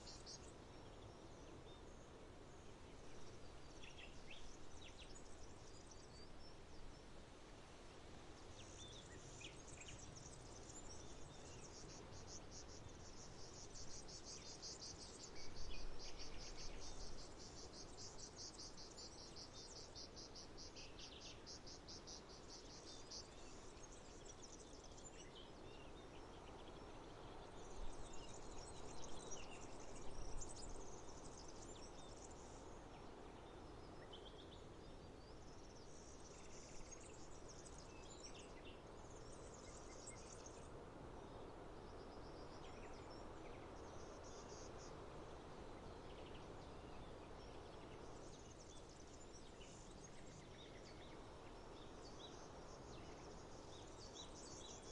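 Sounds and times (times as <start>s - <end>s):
birds and insects chirping: 8.4s - 54.9s.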